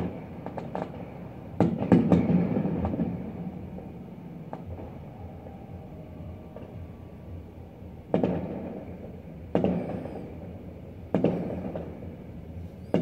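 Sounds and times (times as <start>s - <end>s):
fireworks booming with echo: 0.0s - 5.9s, 6.6s - 13.0s.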